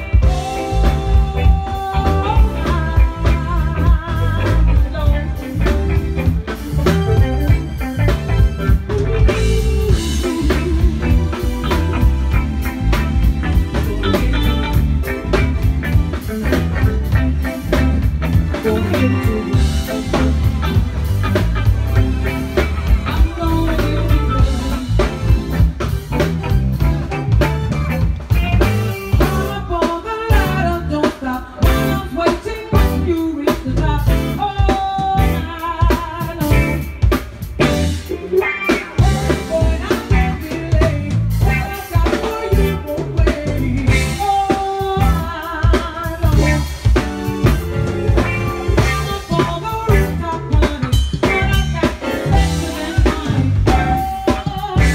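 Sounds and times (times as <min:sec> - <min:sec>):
person singing: 0:00.0 - 0:26.9, 0:28.4 - 0:54.9
bass guitar: 0:00.0 - 0:54.9
drum kit: 0:00.0 - 0:54.9
electric guitar: 0:00.0 - 0:54.9
keyboard: 0:00.0 - 0:54.9.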